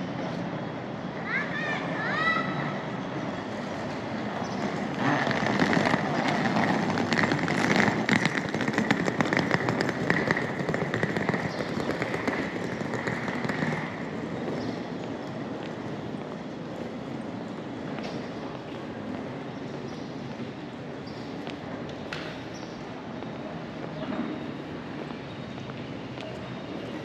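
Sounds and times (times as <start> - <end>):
suitcase wheels rattling on cobblestones: 2.6 - 27.0.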